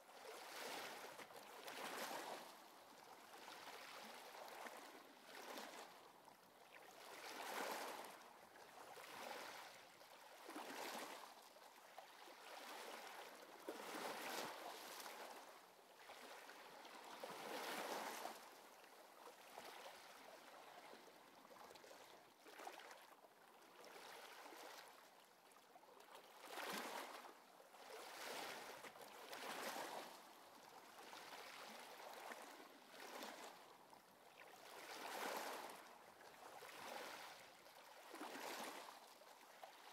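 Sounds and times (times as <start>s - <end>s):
soft sea waves: 0.0s - 39.9s.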